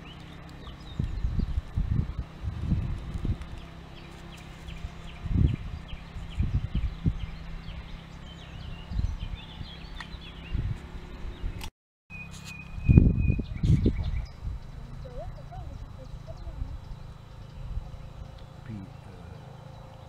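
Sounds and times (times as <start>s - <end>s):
wind buffeting the microphone: 0.0s - 11.7s, 12.6s - 18.5s
small birds chirping: 0.0s - 20.0s.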